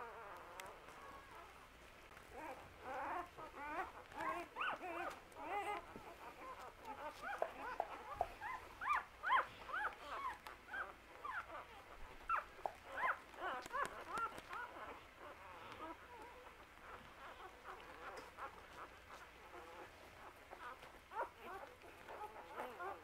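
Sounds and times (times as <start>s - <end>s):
puppies squeaking and whimpering: 0.0s - 23.0s.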